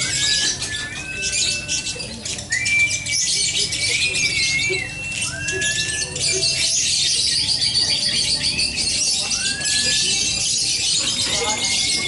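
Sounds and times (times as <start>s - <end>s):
sliding bird whistles: 0.0s - 6.7s, 7.6s - 12.0s
lovebirds chattering: 0.0s - 12.0s.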